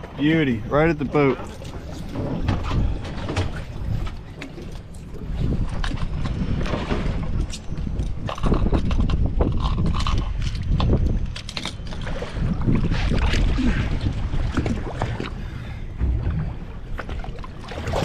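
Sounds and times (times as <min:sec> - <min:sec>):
knocks and clatters on boat: 0:00.0 - 0:18.0
wind rumbling on microphone: 0:00.0 - 0:18.0.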